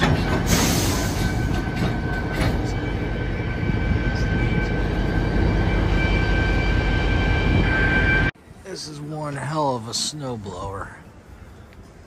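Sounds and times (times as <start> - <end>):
locomotive rumbling: 0.0 - 12.0.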